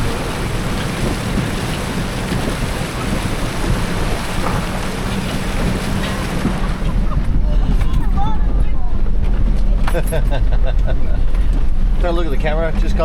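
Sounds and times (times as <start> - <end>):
truck engine humming: 0.0 - 13.0
water rushing and splashing: 0.0 - 13.0.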